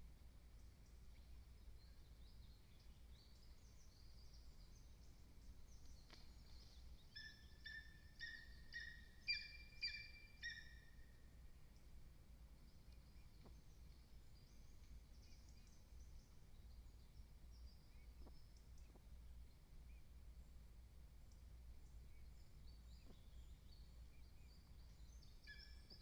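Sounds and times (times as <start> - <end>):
faint songbird twittering: 0.5 - 26.0.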